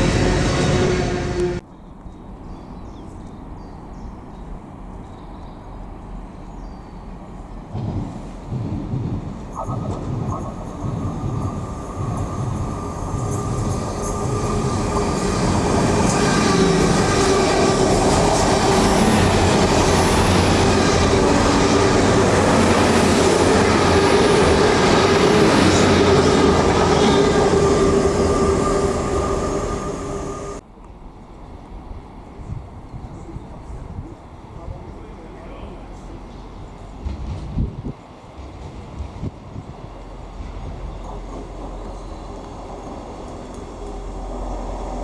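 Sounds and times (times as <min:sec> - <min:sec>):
train rumbling with high whine: 0:00.0 - 0:01.7, 0:03.6 - 0:45.0.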